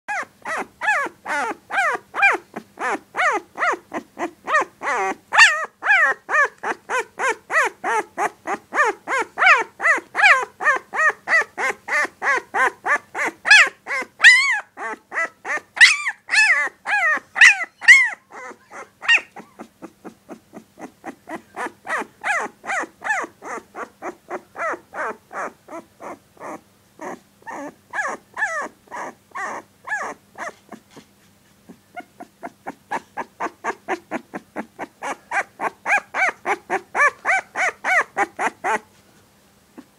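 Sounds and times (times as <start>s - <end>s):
puppy yipping and growling: 0.1s - 38.9s.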